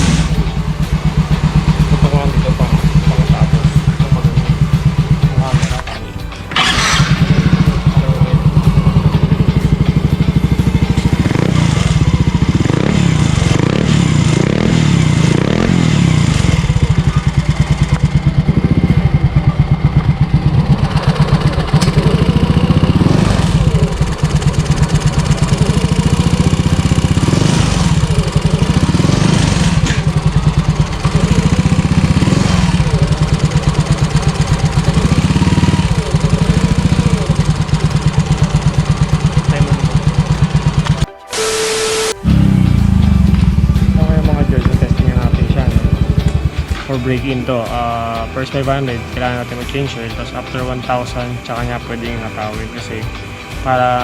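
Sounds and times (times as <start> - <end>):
scooter engine idling: 0.0 - 54.0.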